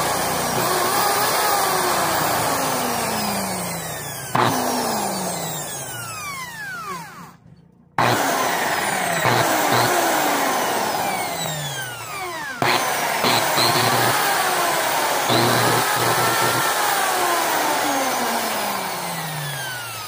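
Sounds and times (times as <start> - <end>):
electric drill motor whining: 0.0 - 7.4, 8.0 - 20.0.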